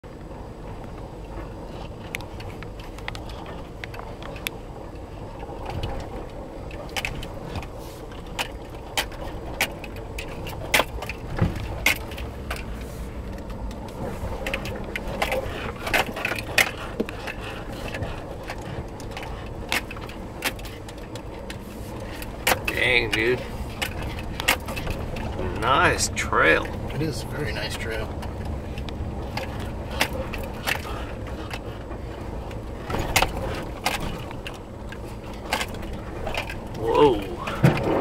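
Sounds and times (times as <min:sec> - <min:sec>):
engine and tyres rumbling: 0:00.0 - 0:38.0
truck knocking and rattling: 0:00.1 - 0:38.0.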